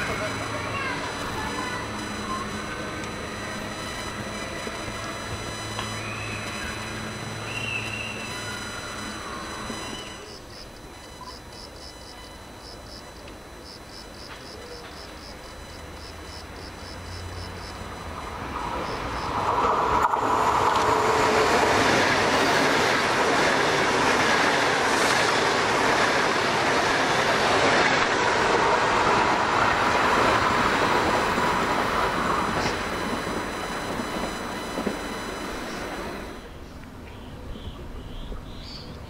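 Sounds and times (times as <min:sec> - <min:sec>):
high-speed train passing: 0:00.0 - 0:11.1, 0:11.8 - 0:36.7
insects chirping: 0:00.0 - 0:38.9.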